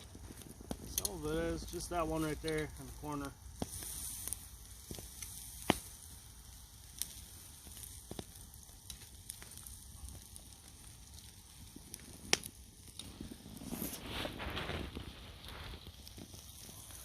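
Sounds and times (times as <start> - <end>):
campfire hissing: 0.0 - 17.0
fire crackling pops: 0.0 - 17.0.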